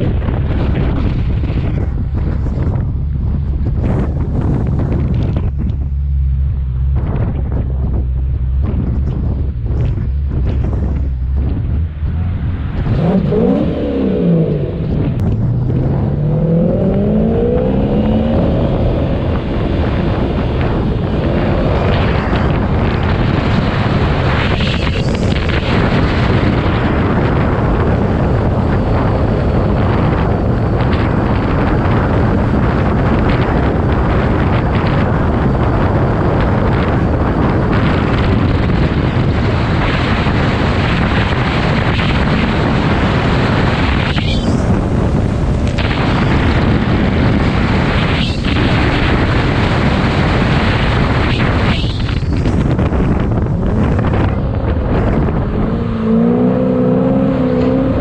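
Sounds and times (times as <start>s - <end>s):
wind noise: 0.0s - 58.0s
car engine revving: 0.1s - 58.0s.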